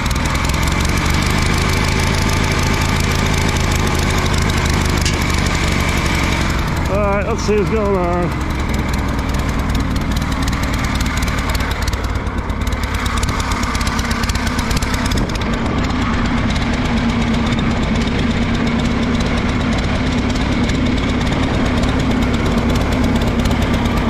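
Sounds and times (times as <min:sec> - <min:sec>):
tractor engine misfiring: 0:00.0 - 0:24.0.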